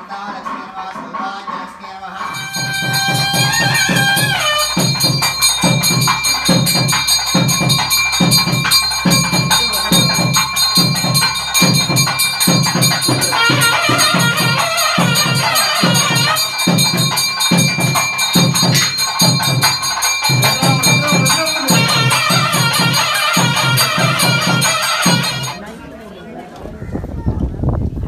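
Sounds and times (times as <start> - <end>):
steady drum beat: 0.0 - 25.7
jingling percussion: 0.1 - 25.7
wavering melody: 2.1 - 25.7
high ringing tones: 2.2 - 25.7.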